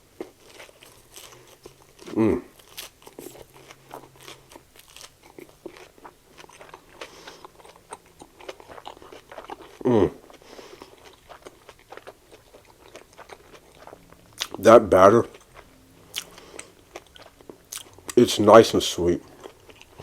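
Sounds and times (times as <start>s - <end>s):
breadcrumb coating crunching: 0.0s - 20.0s
close-up chewing: 0.0s - 20.0s.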